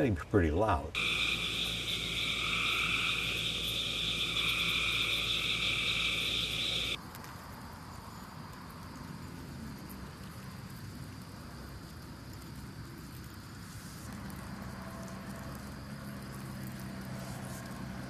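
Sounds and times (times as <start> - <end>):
cicadas buzzing: 0.9 - 18.0.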